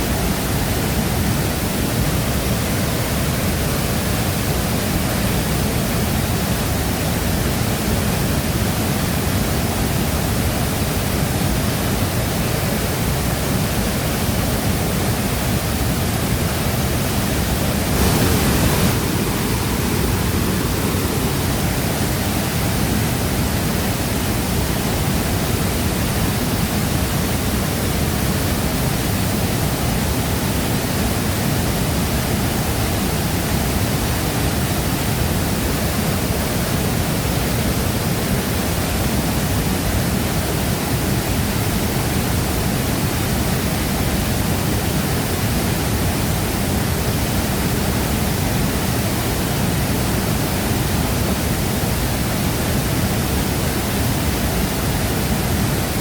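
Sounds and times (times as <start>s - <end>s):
waterfall thundering: 0.0s - 56.0s.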